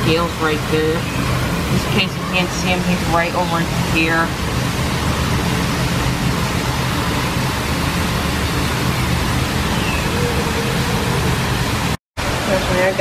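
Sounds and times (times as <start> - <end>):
low hum: 0.0 - 12.0
loud rushing noise: 0.0 - 12.5.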